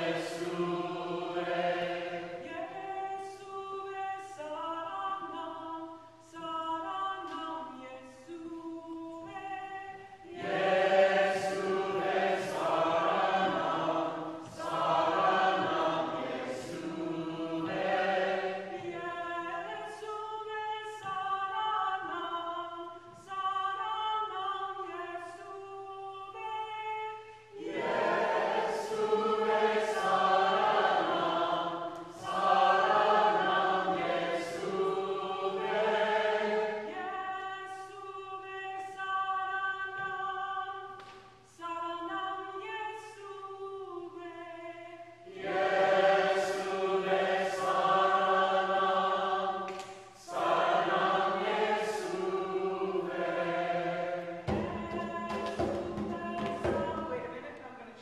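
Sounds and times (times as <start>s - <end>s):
group singing a hymn: 0.0s - 57.6s.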